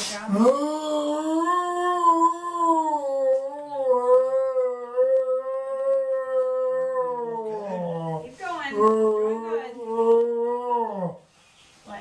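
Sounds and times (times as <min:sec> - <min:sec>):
dog howling: 0:00.5 - 0:11.2.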